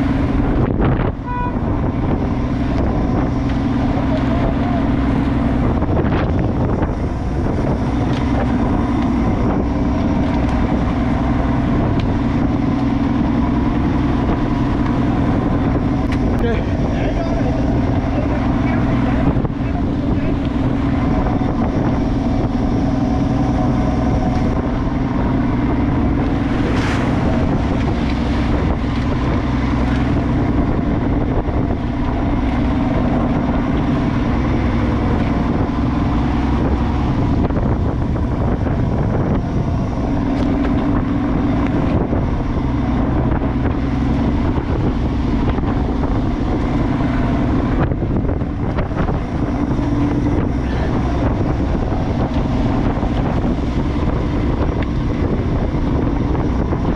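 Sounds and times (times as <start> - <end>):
boat engine running: 0.0 - 56.9
wind buffeting microphone: 0.0 - 56.9.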